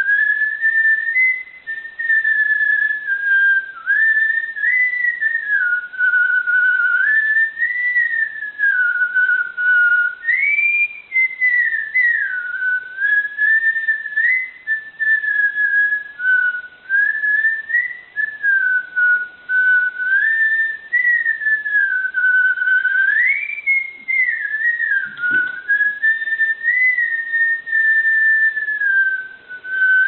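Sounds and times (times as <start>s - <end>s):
person whistling a melody: 0.0s - 30.0s.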